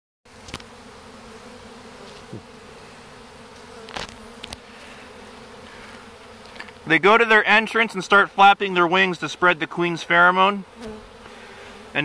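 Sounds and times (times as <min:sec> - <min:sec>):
bee swarm buzzing: 0:00.3 - 0:12.0.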